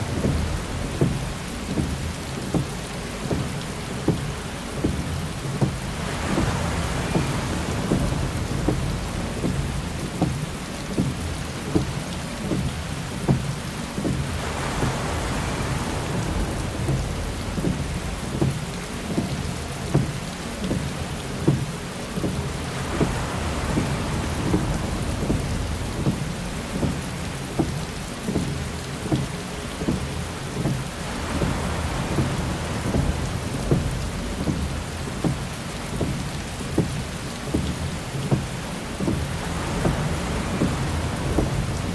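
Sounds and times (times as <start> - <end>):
heavy rain on windshield: 0.0 - 41.9
windshield wiper swishing: 0.0 - 41.9.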